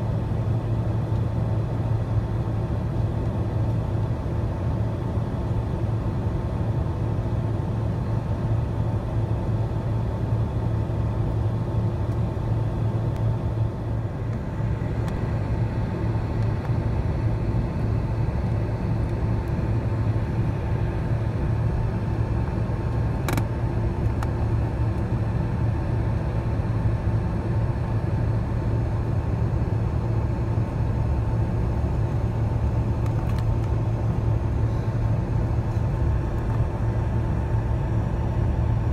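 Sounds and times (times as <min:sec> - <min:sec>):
jet engines rumbling: 0:00.1 - 0:38.9.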